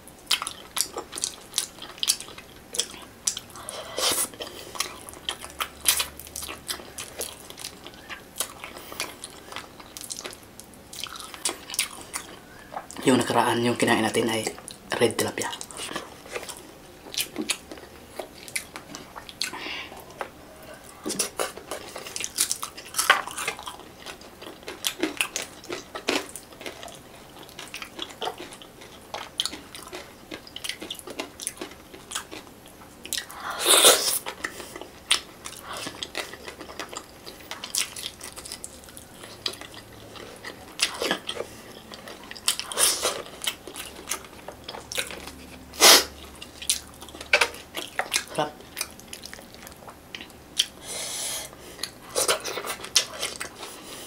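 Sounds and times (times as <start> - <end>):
person chewing food: 0.1 - 54.0.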